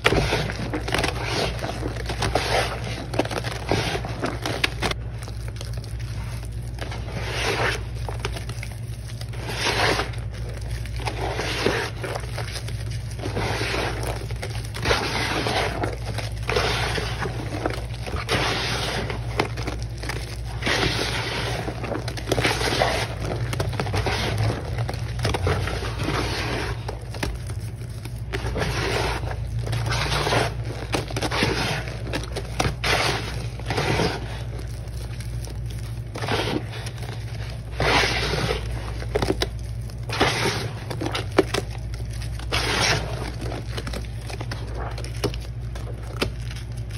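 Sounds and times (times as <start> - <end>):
wet sponge squishing: 0.0 - 46.9.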